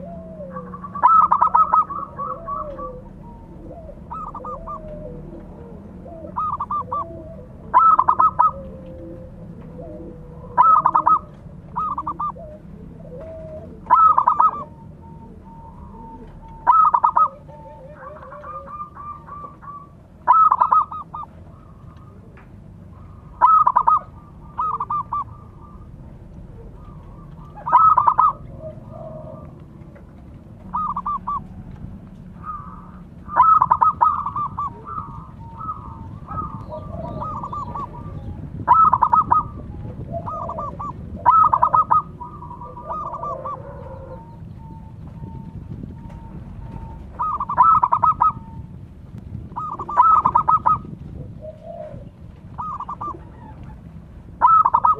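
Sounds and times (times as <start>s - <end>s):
faint distant coos: 0.0s - 48.8s, 49.4s - 54.9s
doves cooing: 0.0s - 54.9s.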